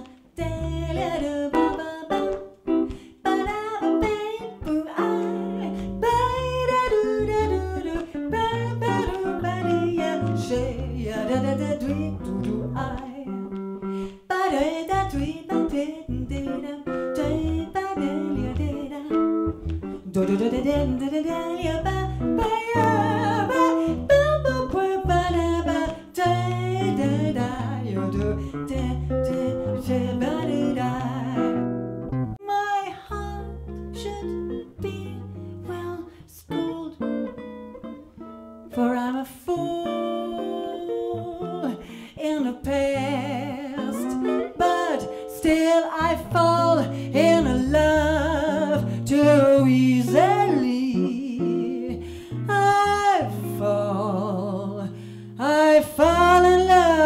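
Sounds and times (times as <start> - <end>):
woman singing into a microphone: 0.0 - 31.8, 32.4 - 37.4, 38.7 - 57.0
jazz guitar playing chords: 0.0 - 32.4, 33.0 - 57.0.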